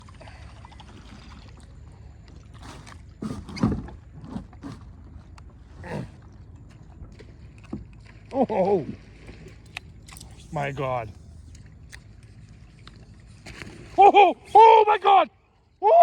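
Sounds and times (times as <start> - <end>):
kayak paddle splashes: 0.0 - 16.0.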